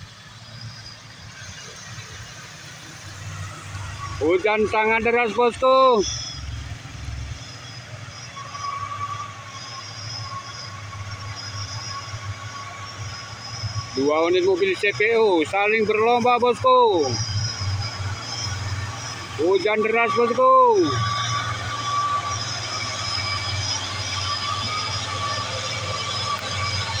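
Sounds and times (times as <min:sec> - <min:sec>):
diesel truck engines rumbling: 0:00.0 - 0:27.0
thin whine: 0:00.0 - 0:27.0.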